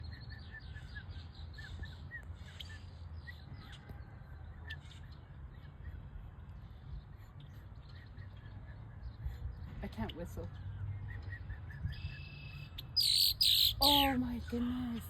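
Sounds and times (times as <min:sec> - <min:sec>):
bird chirping: 0:00.0 - 0:03.9, 0:04.5 - 0:15.0.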